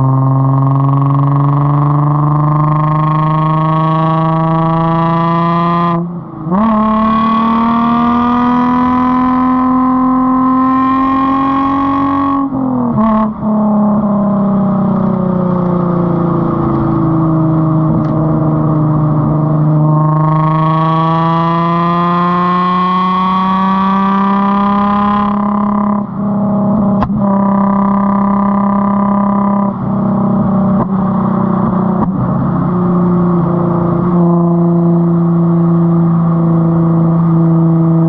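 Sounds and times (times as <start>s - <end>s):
car exhaust accelerating: 0.0s - 38.0s.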